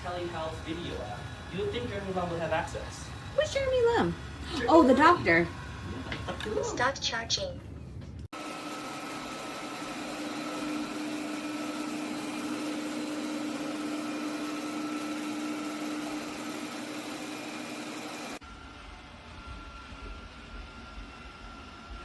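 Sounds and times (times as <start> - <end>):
robot vacuum motor whirring: 0.0 - 6.7, 8.4 - 22.0.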